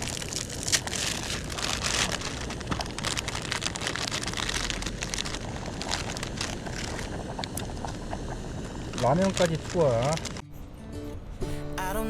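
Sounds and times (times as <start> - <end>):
stew boiling and bubbling: 0.0 - 10.4.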